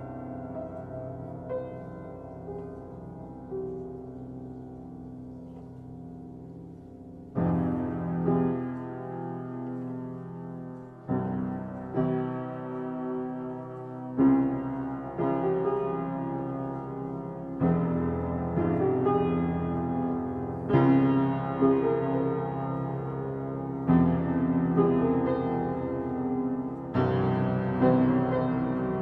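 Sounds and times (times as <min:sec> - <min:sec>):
slow piano chords: 0:00.0 - 0:29.0.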